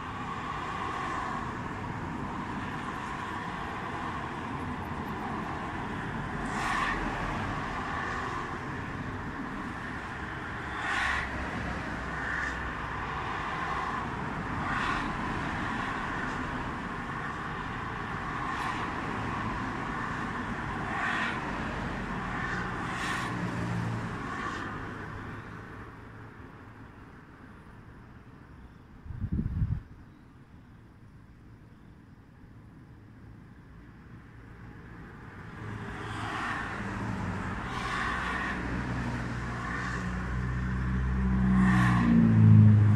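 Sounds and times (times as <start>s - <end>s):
vehicles passing: 0.0s - 30.0s, 32.5s - 42.9s
road traffic: 0.0s - 42.9s.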